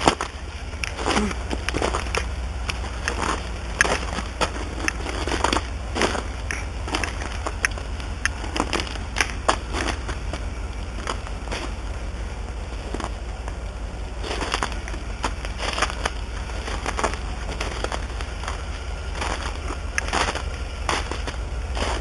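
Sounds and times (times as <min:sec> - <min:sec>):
twigs cracking underfoot: 0:00.0 - 0:11.8, 0:14.2 - 0:22.0
footsteps crunching on ice: 0:00.0 - 0:22.0
steady low rumble: 0:00.0 - 0:22.0.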